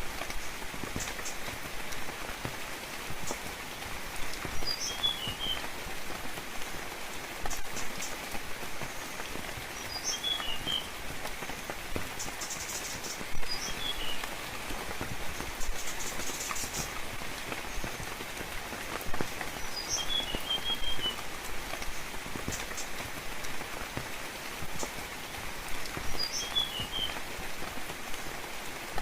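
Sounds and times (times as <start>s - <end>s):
drips pattering on leaves: 0.0s - 29.0s
steady rainfall: 0.0s - 29.0s.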